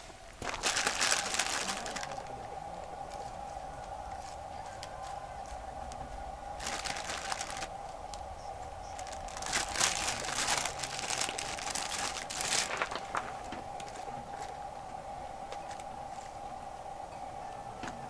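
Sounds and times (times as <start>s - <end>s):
crinkling and rustling: 0.0s - 14.6s.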